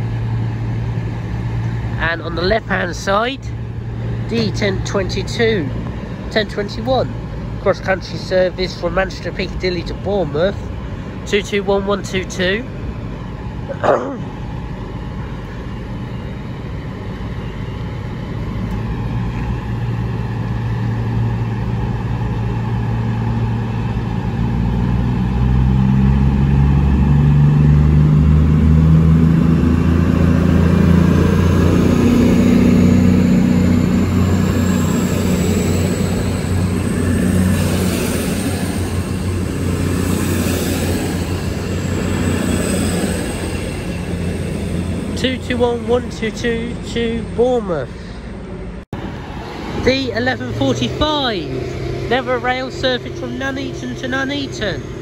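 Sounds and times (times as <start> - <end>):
diesel train engines powering up: 0.0 - 55.0.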